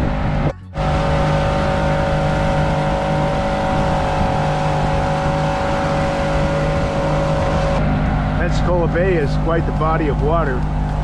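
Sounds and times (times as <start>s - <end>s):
outboard motor droning: 0.0s - 11.0s.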